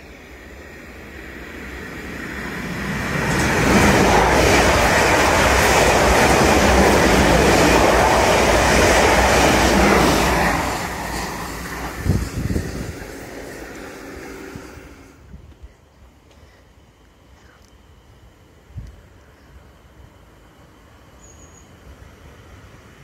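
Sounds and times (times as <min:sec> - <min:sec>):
train passing with wheel noise: 0:00.0 - 0:23.0.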